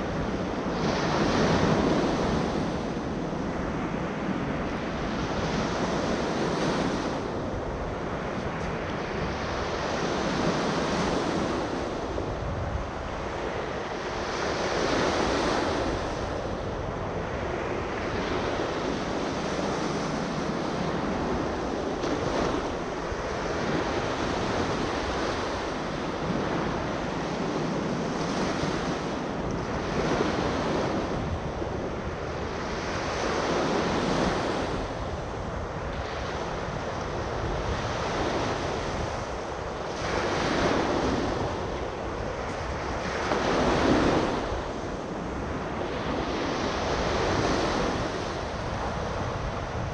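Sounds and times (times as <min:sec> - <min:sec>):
wind rumble on microphone: 0:00.0 - 0:49.9.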